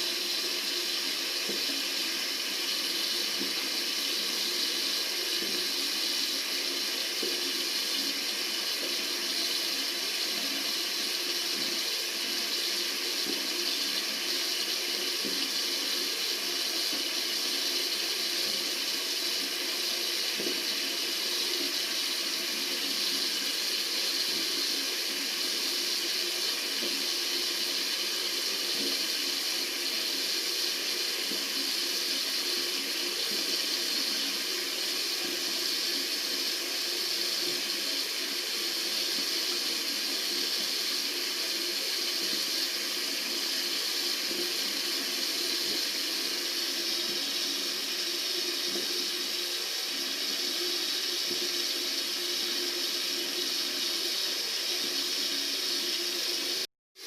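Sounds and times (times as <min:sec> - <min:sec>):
tap water running into sink: 0:00.0 - 0:56.7.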